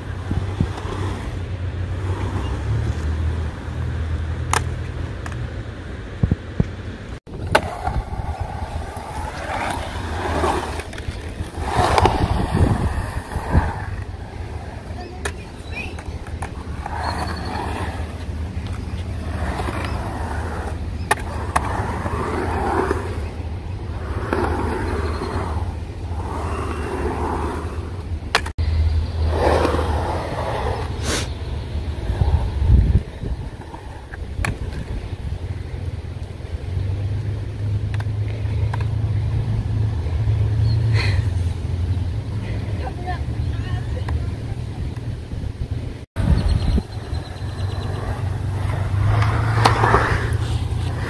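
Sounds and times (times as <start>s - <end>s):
skateboard wheels rumbling on concrete: 0.0s - 51.0s.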